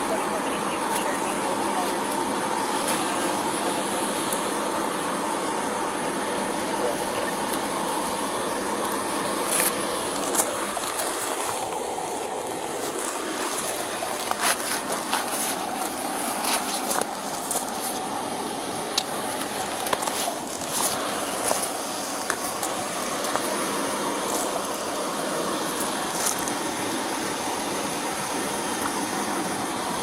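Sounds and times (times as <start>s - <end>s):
traffic rushing hiss: 0.0s - 30.0s.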